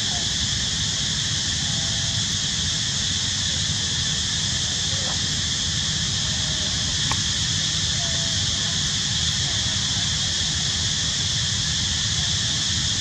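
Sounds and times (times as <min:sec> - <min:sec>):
high hiss: 0:00.0 - 0:13.0.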